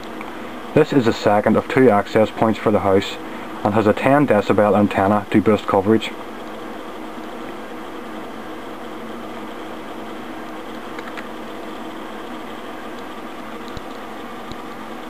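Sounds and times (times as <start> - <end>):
server cooling fans whirring: 0.0 - 15.0.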